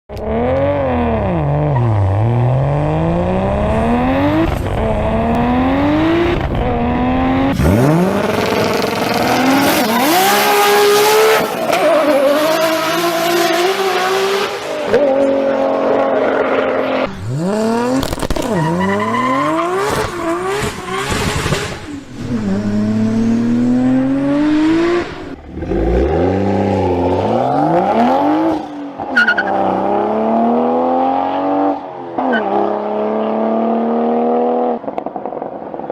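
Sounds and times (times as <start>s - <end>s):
car engines revving and accelerating: 0.1s - 35.9s.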